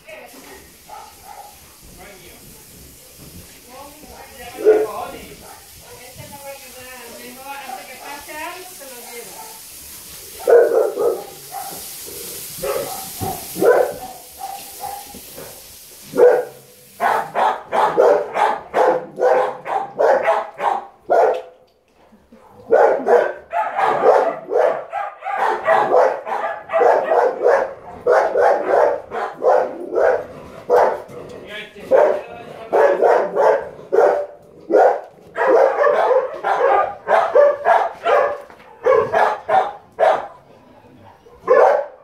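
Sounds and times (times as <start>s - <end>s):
dogs barking: 0.8s - 1.8s, 4.1s - 6.1s, 7.6s - 8.3s, 9.2s - 9.7s, 10.3s - 21.7s, 22.3s - 42.0s.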